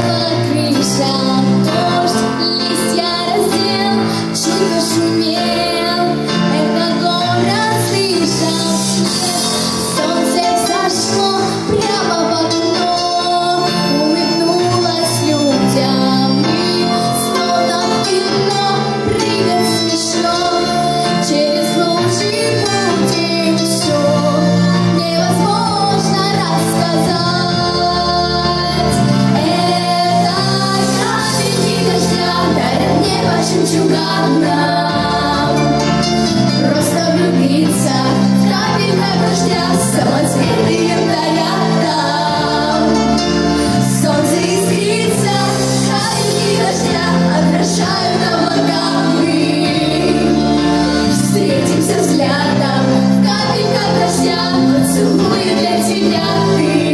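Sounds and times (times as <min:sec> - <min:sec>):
pop backing track with bass: 0:00.0 - 0:56.9.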